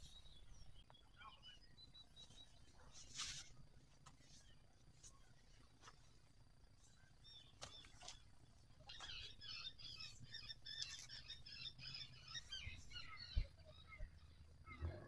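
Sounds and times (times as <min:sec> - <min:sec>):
songbird chirping and warbling: 0:00.0 - 0:15.0.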